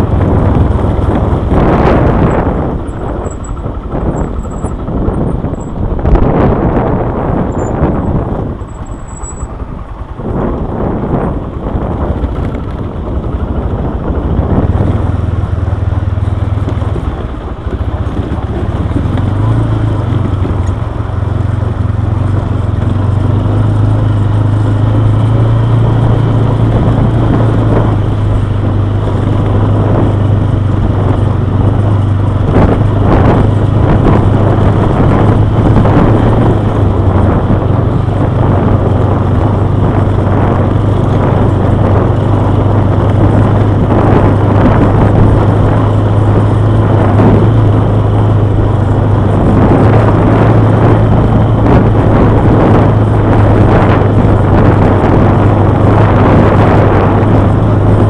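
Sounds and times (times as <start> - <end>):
quad bike engine running: 0.0 - 58.0
rough road noise: 0.0 - 58.0.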